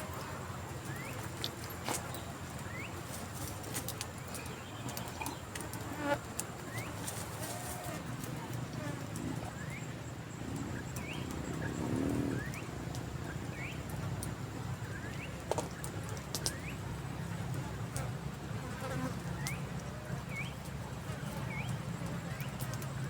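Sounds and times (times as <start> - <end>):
flying insects buzzing: 0.0 - 23.0.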